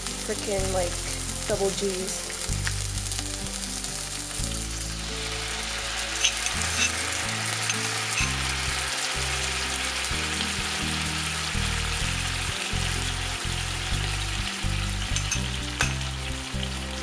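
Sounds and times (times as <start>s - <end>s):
sauce bubbling: 0.0s - 16.9s
background music with bass: 0.0s - 17.0s
chicken sizzling in oil: 0.0s - 17.0s.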